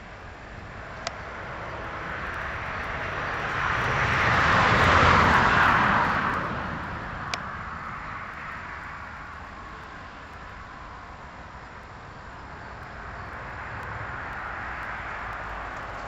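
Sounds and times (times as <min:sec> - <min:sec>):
vehicle passing: 0:00.6 - 0:10.2, 0:12.4 - 0:16.0.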